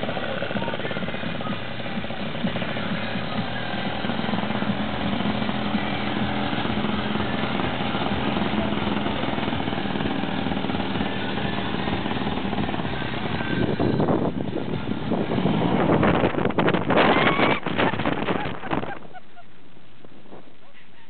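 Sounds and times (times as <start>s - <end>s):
engine running with rattling hum: 0.0s - 21.0s.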